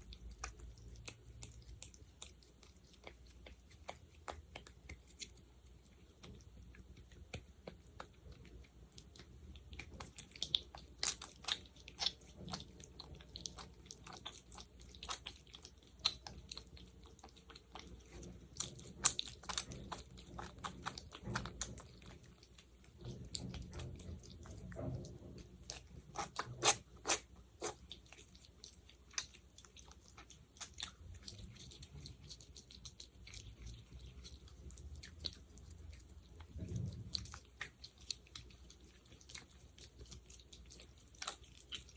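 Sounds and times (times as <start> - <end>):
fingers squishing thick gel: 0.0 - 41.9.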